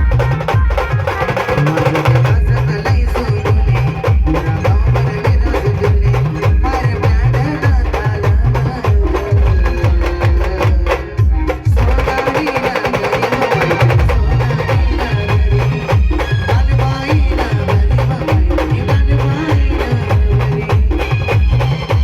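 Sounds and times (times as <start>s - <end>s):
band music: 0.0s - 22.0s
heavy bass drum beats: 0.0s - 22.0s.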